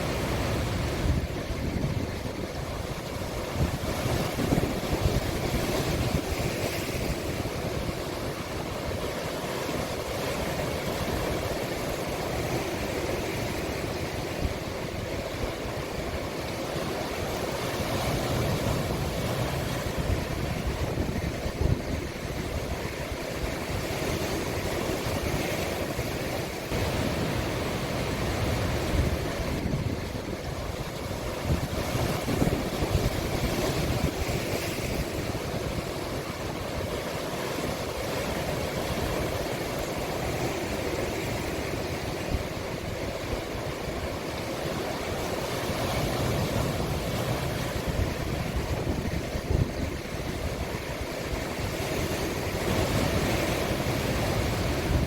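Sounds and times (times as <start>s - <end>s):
sea waves surf: 0.0s - 55.0s.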